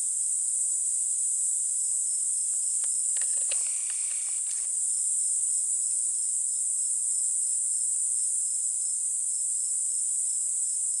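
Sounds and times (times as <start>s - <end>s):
crickets chorus: 0.0s - 11.0s.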